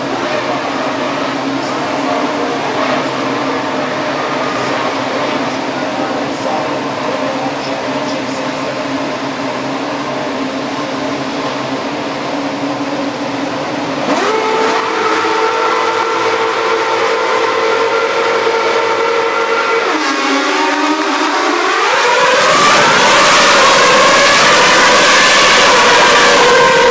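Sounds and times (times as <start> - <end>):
racing car engines revving: 0.0 - 26.9.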